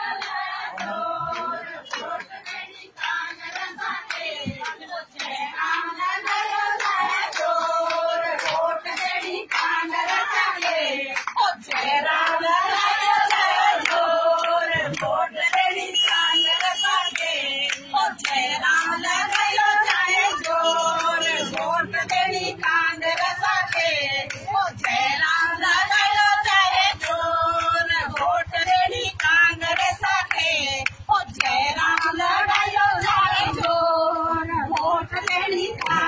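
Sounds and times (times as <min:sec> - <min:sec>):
rhythmic hand clapping: 0:00.0 - 0:36.0
women singing together: 0:00.0 - 0:36.0.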